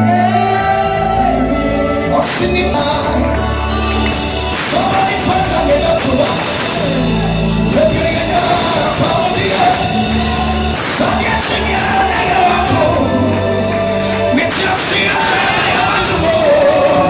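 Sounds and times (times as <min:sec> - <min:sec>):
backing singers: 0:00.0 - 0:17.0
long held bass notes: 0:00.0 - 0:17.0
man singing into a microphone: 0:00.0 - 0:17.0.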